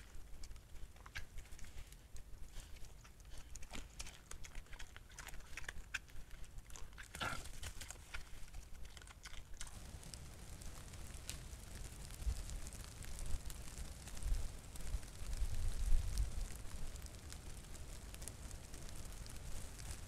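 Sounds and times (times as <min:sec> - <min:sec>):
boar chewing and rooting: 0:00.0 - 0:20.0.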